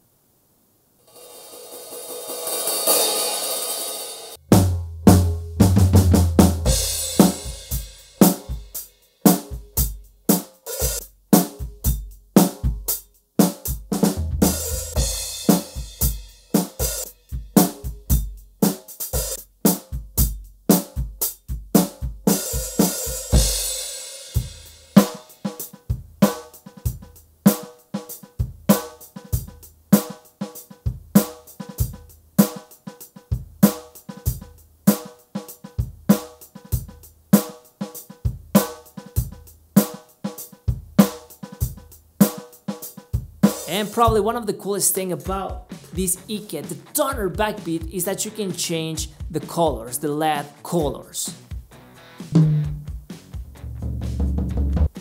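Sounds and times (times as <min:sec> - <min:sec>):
electronic drum groove: 0:04.6 - 0:55.0.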